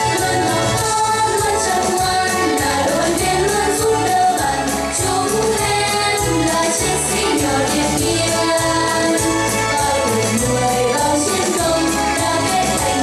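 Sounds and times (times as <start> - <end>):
girls singing in unison: 0.0 - 13.0.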